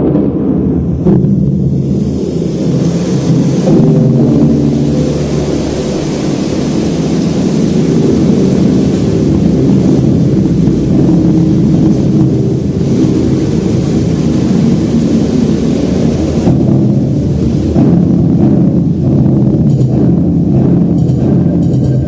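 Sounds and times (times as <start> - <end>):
deep engine-like rumble over loudspeakers: 0.0 - 22.0.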